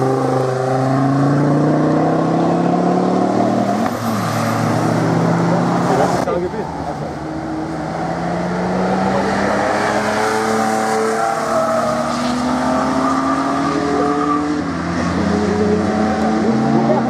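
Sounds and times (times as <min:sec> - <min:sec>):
cars driving through a corner: 0:00.0 - 0:17.0.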